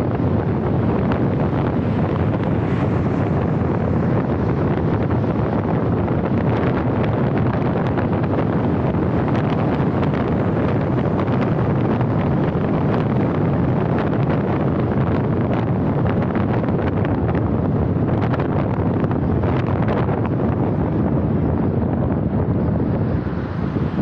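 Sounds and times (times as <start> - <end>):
car road noise: 0.0 - 24.0
wind buffeting microphone: 0.0 - 24.0.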